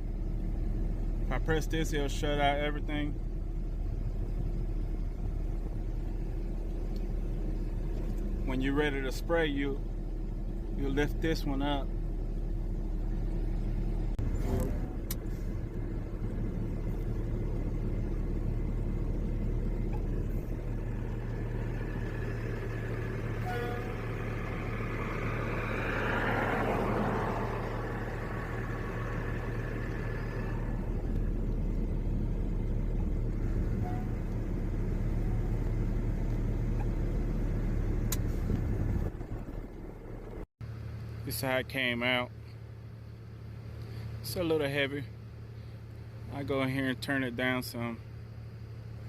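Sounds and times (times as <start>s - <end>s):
truck engine running: 0.0s - 41.2s.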